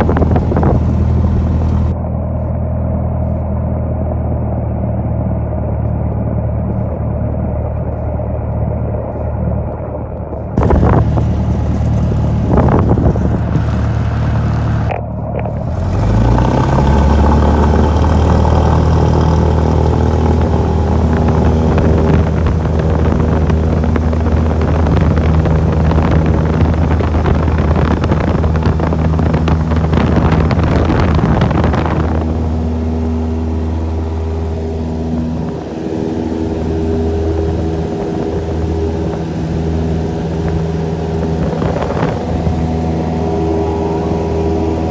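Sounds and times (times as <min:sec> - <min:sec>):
aircraft engine drone: 0:00.0 - 0:44.9
rough rumble: 0:00.0 - 0:44.9.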